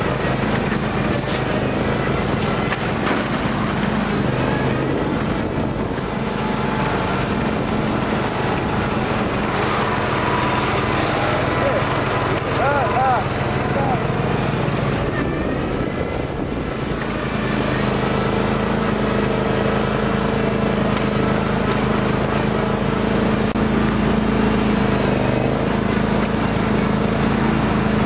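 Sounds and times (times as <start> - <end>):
lawn tractor engine running: 0.0 - 28.0.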